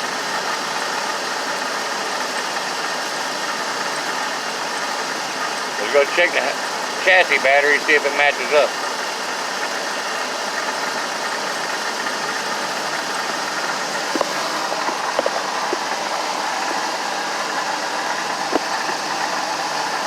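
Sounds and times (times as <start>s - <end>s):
motorhome engine idling: 0.0s - 20.0s.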